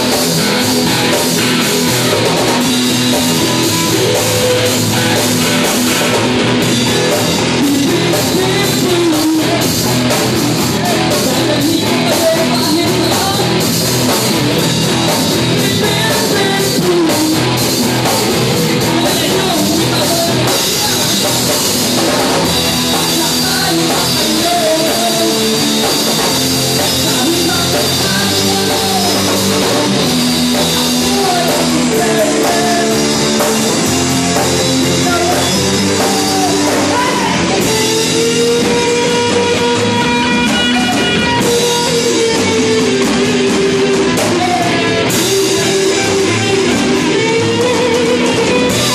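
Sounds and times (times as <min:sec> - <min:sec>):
person singing: 0:00.0 - 0:48.9
rock band playing: 0:00.0 - 0:48.9.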